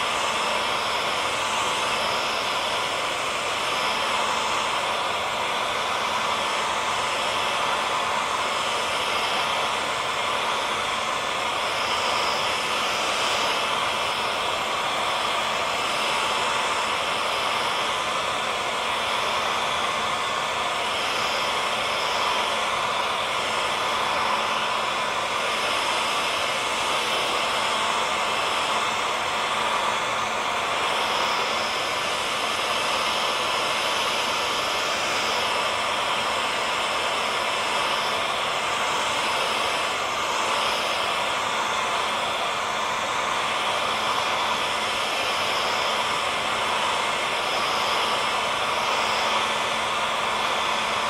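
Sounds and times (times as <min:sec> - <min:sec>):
hair dryer running: 0:00.0 - 0:51.0.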